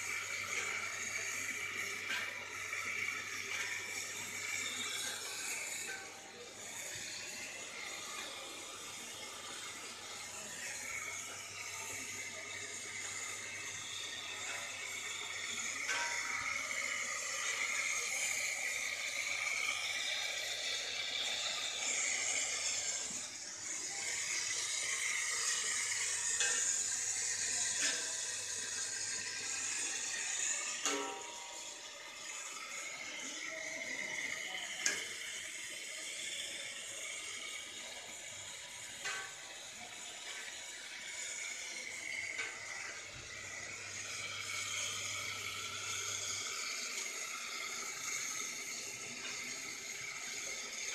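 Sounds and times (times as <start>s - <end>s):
steam hissing and milk boiling: 0.0s - 50.9s.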